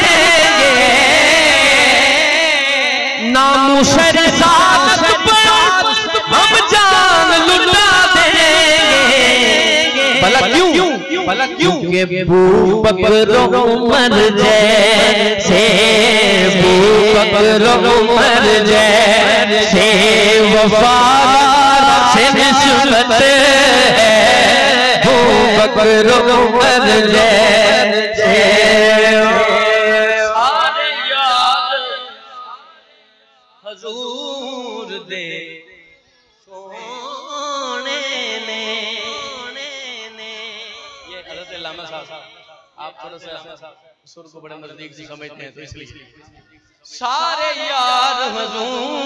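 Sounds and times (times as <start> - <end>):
man singing ornamented line: 0.0 - 32.9, 33.6 - 43.6, 46.8 - 49.0.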